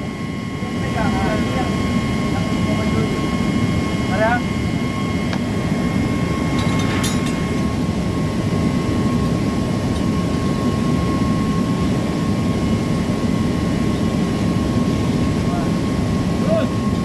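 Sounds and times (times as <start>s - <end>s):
industrial machinery drone: 0.0s - 17.0s.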